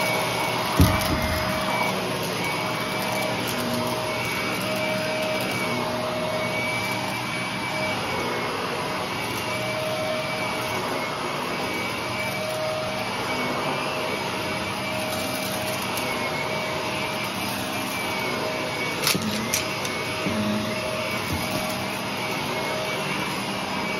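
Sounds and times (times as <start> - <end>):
vacuum cleaner running: 0.0 - 23.9
vacuum crunching over carpet: 0.0 - 23.9.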